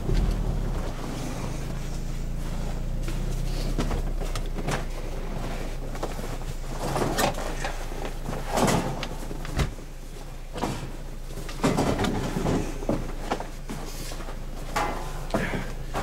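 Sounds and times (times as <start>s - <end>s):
knocks and clunks: 0.0s - 9.9s, 10.5s - 13.9s, 14.6s - 16.0s
car engine running: 0.0s - 16.0s.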